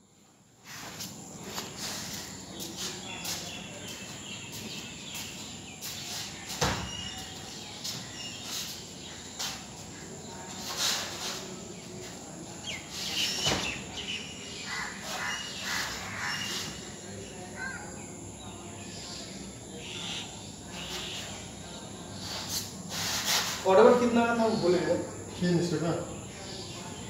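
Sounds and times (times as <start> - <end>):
faint distant voices: 0.0 - 27.0
outdoor background hiss: 0.0 - 27.0.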